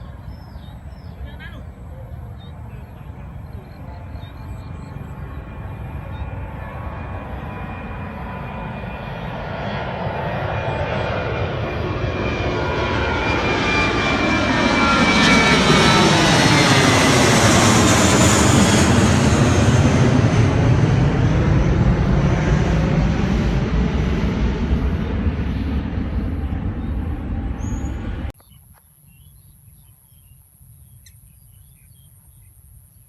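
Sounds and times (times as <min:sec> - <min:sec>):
airliner engines passing: 0:00.0 - 0:28.4.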